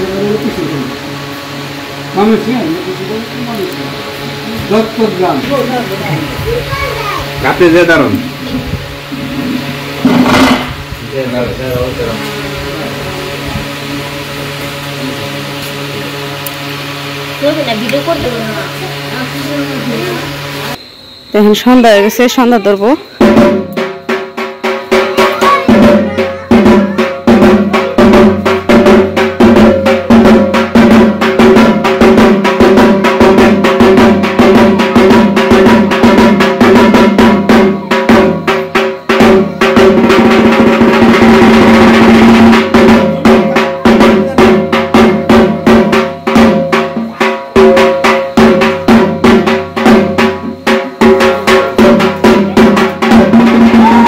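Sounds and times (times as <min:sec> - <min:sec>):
fast drumming: 0:00.0 - 0:16.3, 0:21.4 - 0:54.0
steady ringing tones: 0:00.0 - 0:54.0.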